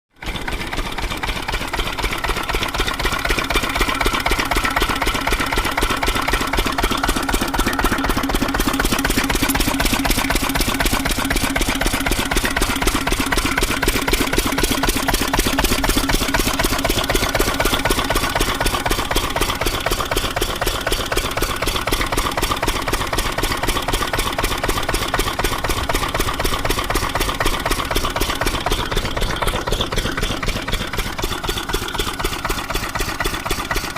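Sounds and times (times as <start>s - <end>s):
single-cylinder diesel engine running: 0.1s - 33.9s.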